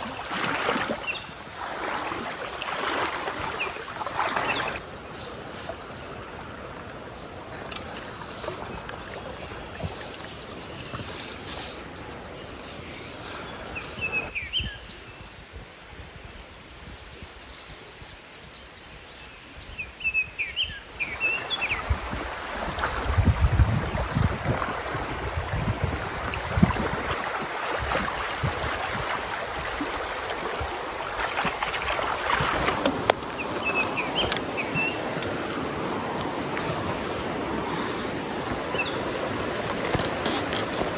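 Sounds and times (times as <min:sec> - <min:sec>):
mountain stream rushing: 0:00.0 - 0:14.3, 0:20.9 - 0:40.9.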